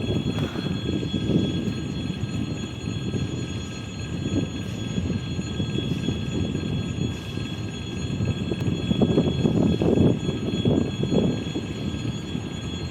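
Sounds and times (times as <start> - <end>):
faint whining tones: 0.0 - 12.9
train low rumble: 0.0 - 12.9.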